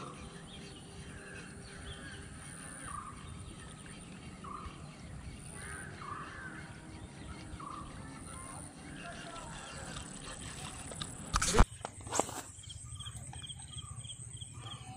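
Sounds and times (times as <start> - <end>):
bird calling: 0.0 - 14.9.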